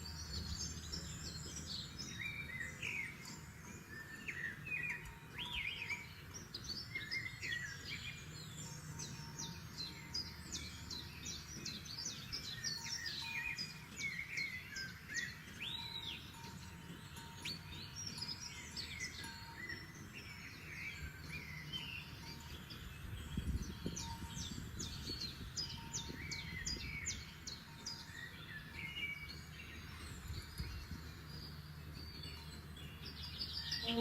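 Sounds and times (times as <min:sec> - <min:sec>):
songbirds singing and calling: 0:00.0 - 0:34.0.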